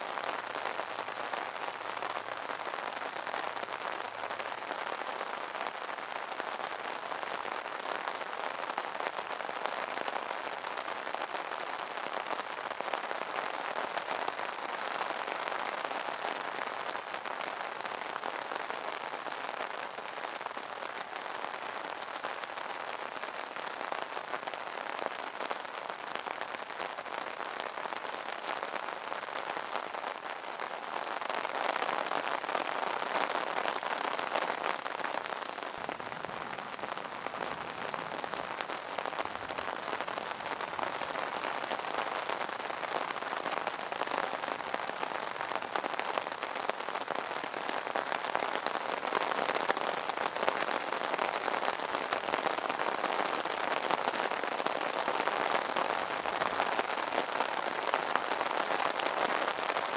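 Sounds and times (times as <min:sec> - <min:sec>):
rain pattering on an umbrella: 0:00.0 - 0:59.9.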